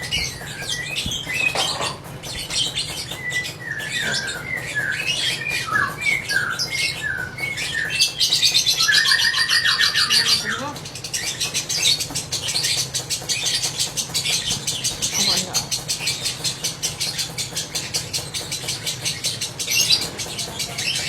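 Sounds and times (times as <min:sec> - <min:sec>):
lovebird chattering: 0:00.0 - 0:21.0.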